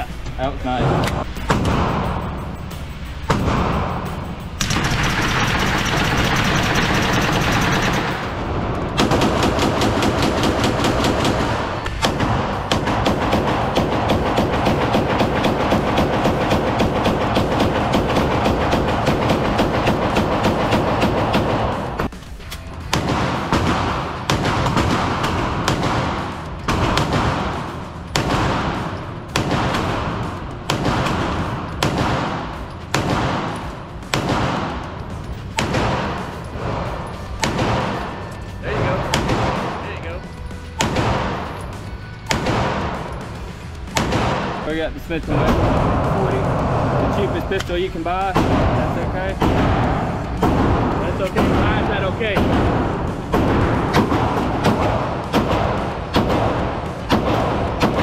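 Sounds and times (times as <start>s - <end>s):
pistol shots echoing indoors: 3.2s - 44.7s, 48.3s - 58.0s
rapid gunfire: 3.3s - 22.1s, 22.8s - 58.0s.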